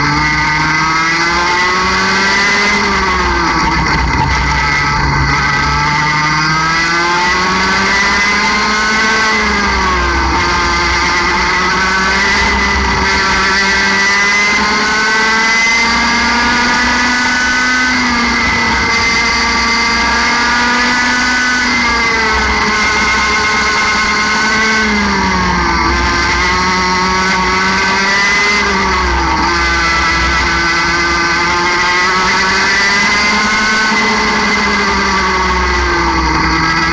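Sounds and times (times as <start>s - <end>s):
kart engine revving: 0.0s - 36.9s.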